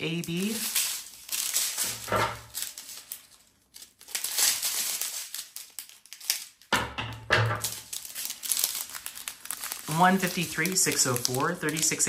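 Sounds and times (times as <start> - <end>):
plastic bags crinkling: 0.0 - 6.8, 7.4 - 12.0.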